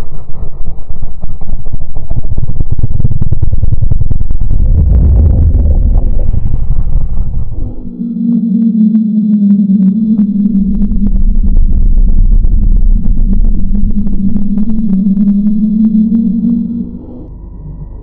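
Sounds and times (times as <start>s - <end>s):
low rumbling drone with crackling: 0.0s - 18.0s.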